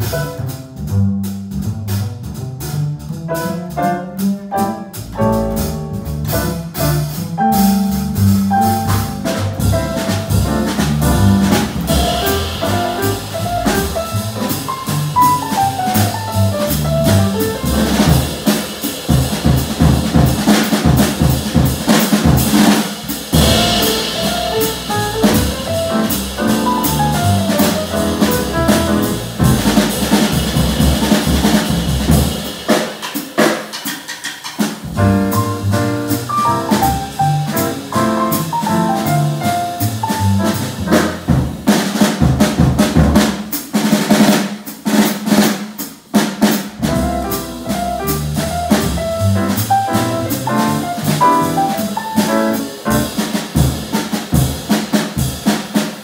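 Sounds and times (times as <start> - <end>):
jazz drum kit: 0.0 - 56.0.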